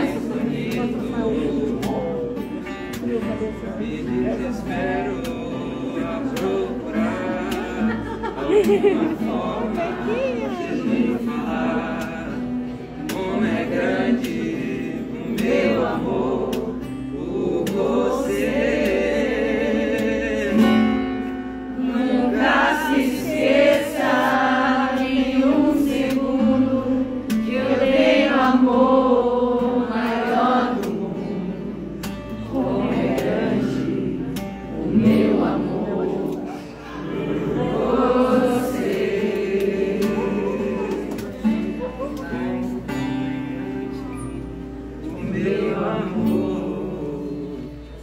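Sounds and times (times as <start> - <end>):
acoustic guitar: 0.0 - 48.0
people singing together: 0.0 - 48.0.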